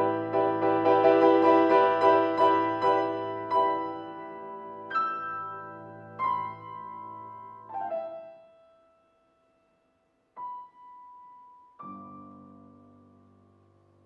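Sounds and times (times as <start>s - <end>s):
solo piano chords and notes: 0.0s - 14.0s.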